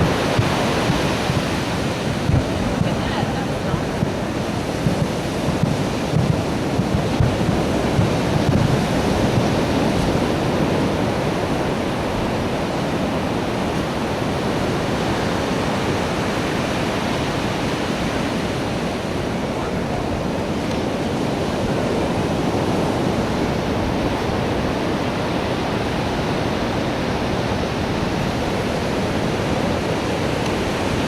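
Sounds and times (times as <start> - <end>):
breaking surf: 0.0 - 31.0
wind buffeting microphone: 0.0 - 31.0.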